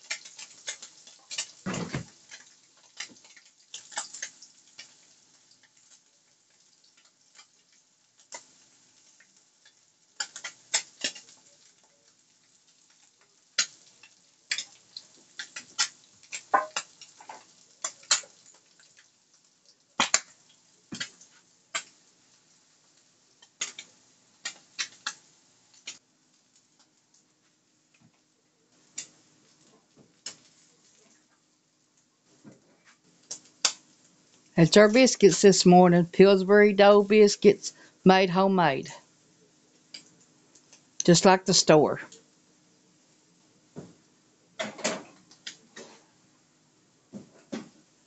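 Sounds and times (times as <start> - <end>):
ham frying with popping grease: 0.0 - 48.0.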